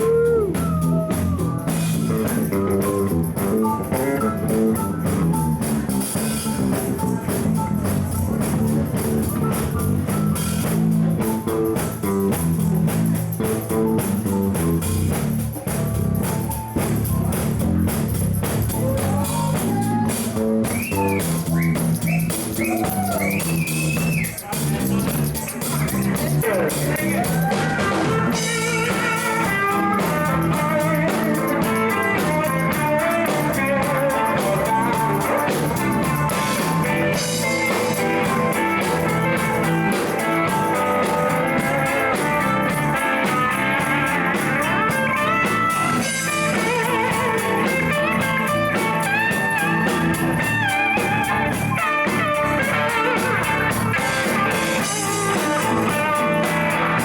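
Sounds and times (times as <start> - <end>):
bass: 0.0 - 57.0
drum beat: 0.0 - 57.0
electric guitar lead lines: 0.0 - 57.0.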